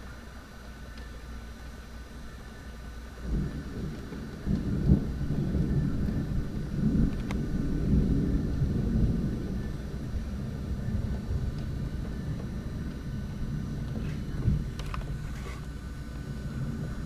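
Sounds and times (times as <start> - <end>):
thunder rumbling: 3.1 - 17.0.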